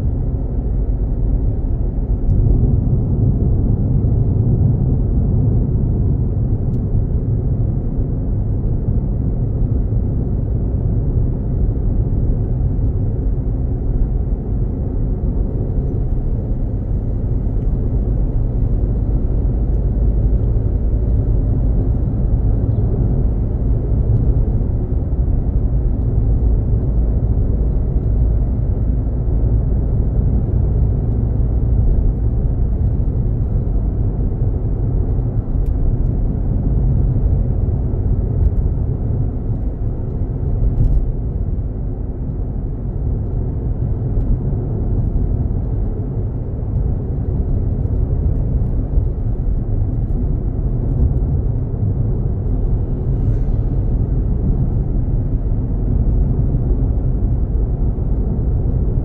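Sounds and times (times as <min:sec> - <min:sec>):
car driving on paved road: 0:00.0 - 0:59.0.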